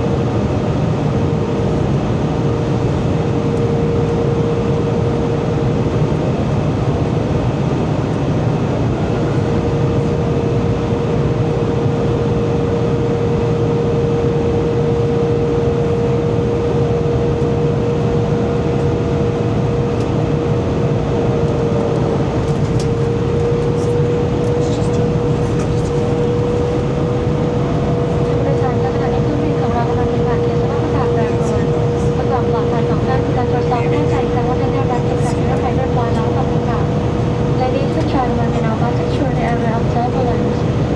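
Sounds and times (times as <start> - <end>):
aircraft engines and airflow rushing: 0.0 - 40.9
constant hum tone: 0.0 - 40.9.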